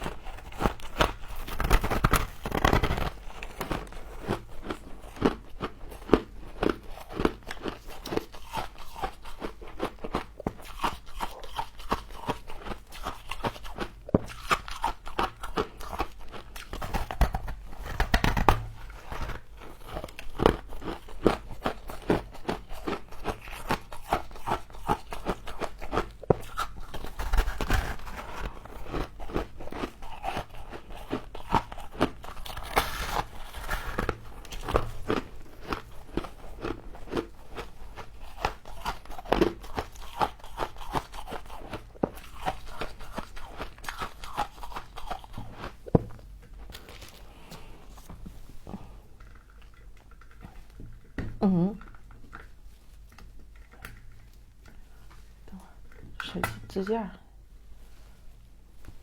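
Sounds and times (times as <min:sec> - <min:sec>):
person chewing frost crunching: 0:00.0 - 0:56.2.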